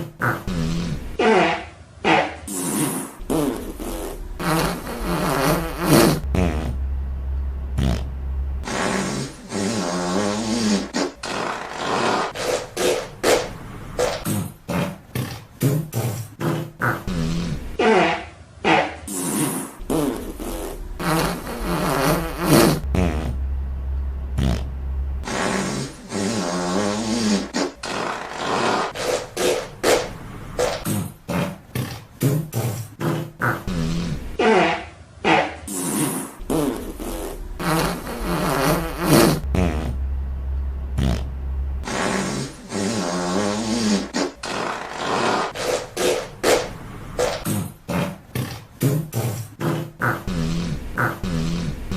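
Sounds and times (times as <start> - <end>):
fart sounds: 0.0 - 6.8, 7.7 - 23.4, 24.3 - 40.0, 40.9 - 51.9.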